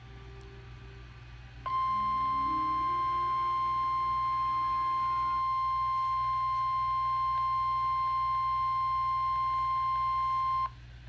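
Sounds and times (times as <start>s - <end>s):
steady high alarm beep: 1.7s - 10.7s.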